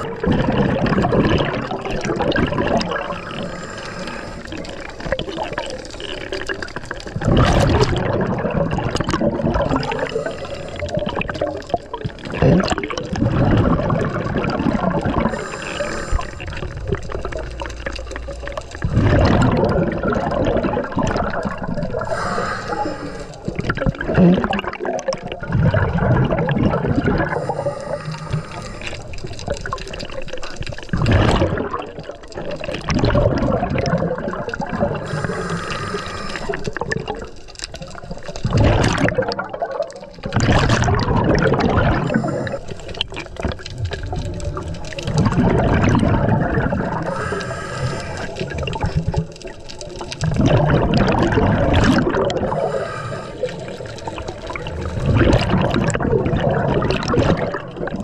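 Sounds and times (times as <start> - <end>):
exhaled bubbles gurgling: 0.0 - 58.0.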